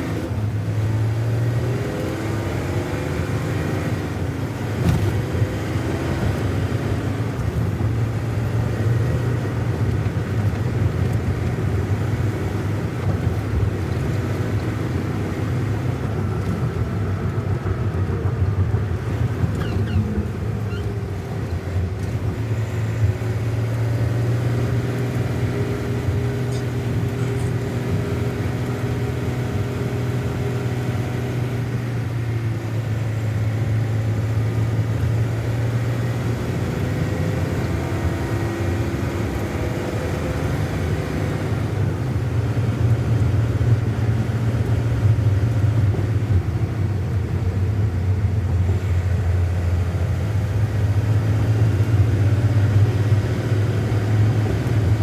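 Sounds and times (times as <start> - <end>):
diesel truck engine running: 0.0 - 55.0
road noise: 0.0 - 55.0.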